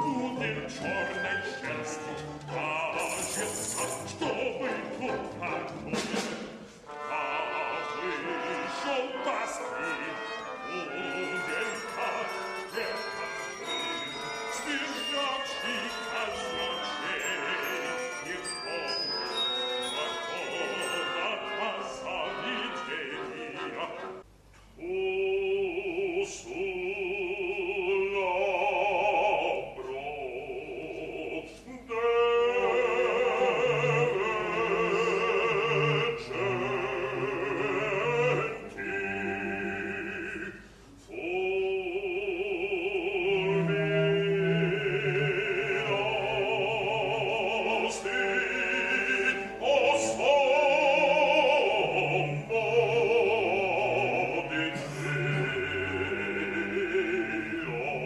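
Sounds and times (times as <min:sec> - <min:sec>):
operatic bass singing: 0:00.0 - 0:19.1, 0:24.8 - 0:58.0
orchestral accompaniment: 0:00.0 - 0:24.3, 0:32.0 - 0:40.8, 0:41.4 - 0:58.0.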